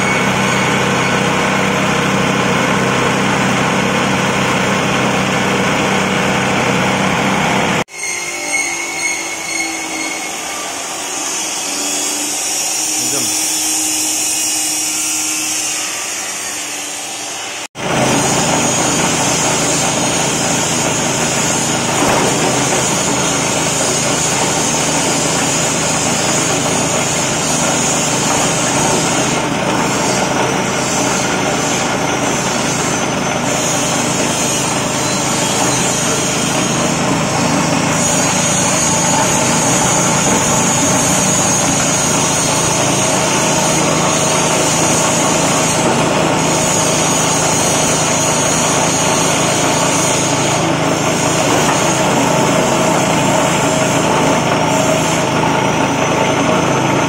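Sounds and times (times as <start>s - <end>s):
chopping machine running: 0.0s - 7.9s, 10.3s - 16.4s, 17.4s - 57.0s.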